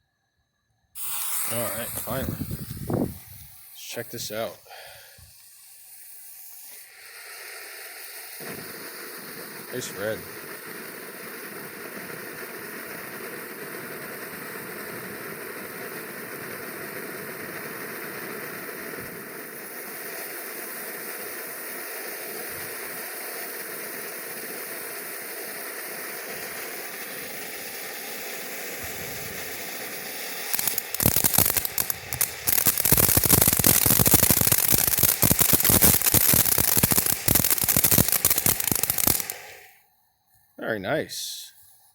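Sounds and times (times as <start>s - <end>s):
firework crackling: 0.9s - 39.8s
fountain firework hissing: 0.9s - 39.9s.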